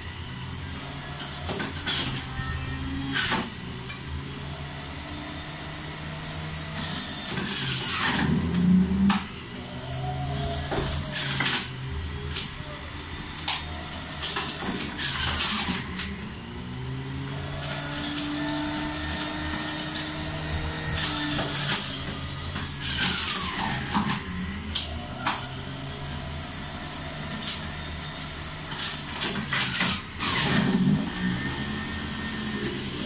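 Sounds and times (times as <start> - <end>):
blender motor running: 0.0 - 33.0.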